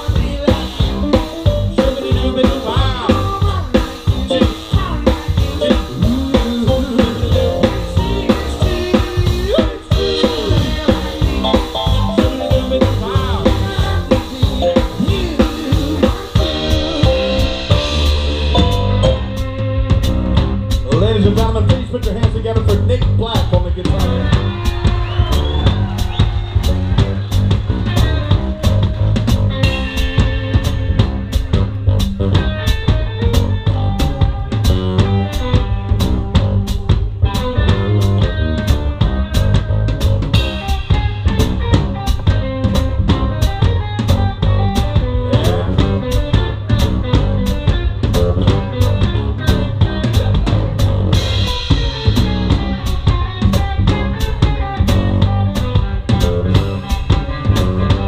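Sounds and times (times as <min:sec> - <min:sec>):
bass drum and snare beat: 0:00.0 - 0:58.0
live band playing swing music: 0:00.0 - 0:58.0.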